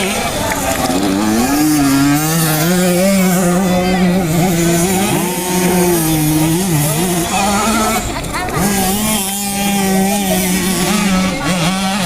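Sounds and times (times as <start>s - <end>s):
two-stroke motocross bikes revving: 0.0s - 12.0s.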